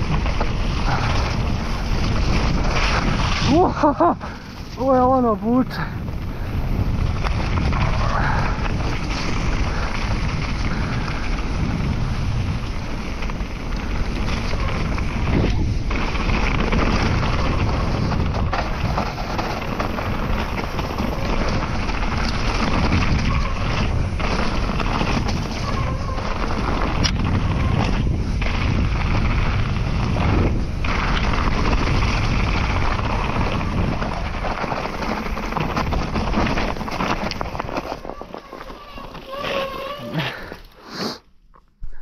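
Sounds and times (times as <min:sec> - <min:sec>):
wind rushing on microphone: 0:00.0 - 0:40.5
bike tyre noise and rattle: 0:00.0 - 0:42.0.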